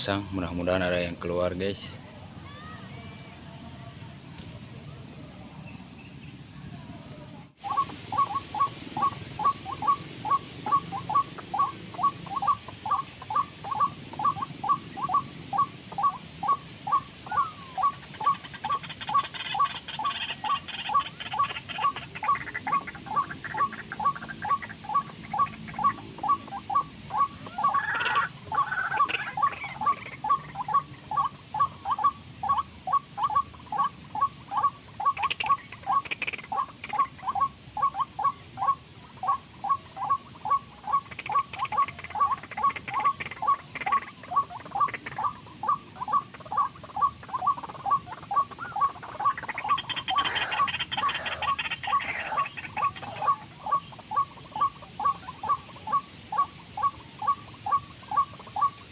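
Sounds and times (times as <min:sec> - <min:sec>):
other bird calls: 0:07.6 - 0:58.9
recorded bird call repeating: 0:07.6 - 0:58.9.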